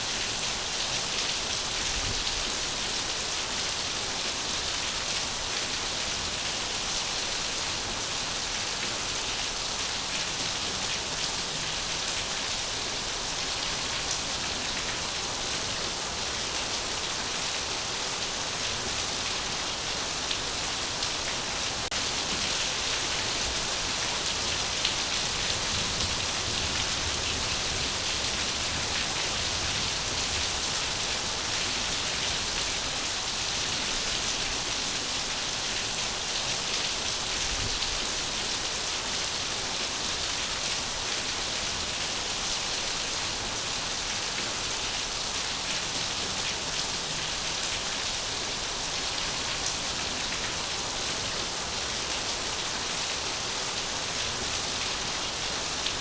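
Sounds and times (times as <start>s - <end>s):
rush of falling water: 0.0s - 56.0s.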